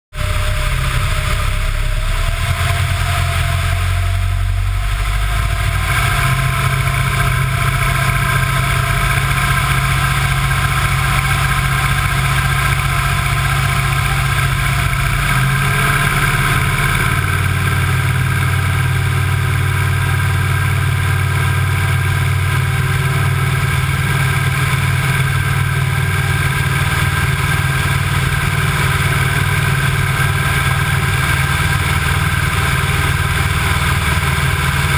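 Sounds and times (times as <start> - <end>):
aircraft engine and propeller: 0.1 - 34.9.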